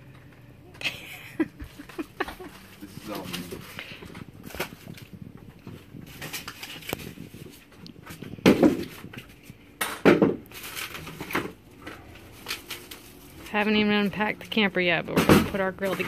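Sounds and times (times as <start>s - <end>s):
cardboard and plastic rustling: 1.6s - 16.0s.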